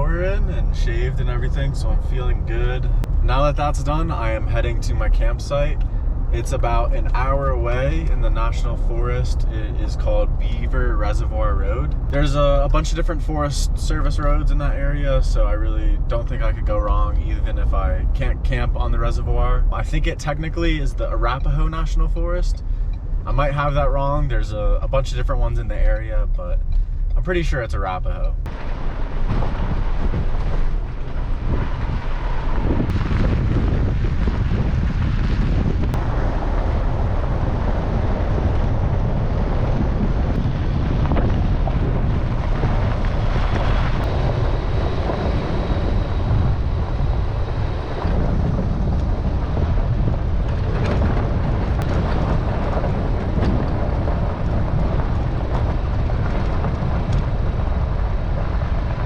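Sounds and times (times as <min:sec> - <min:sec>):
truck driving rumble: 0:00.0 - 0:59.0
wind buffeting microphone: 0:00.0 - 0:59.0.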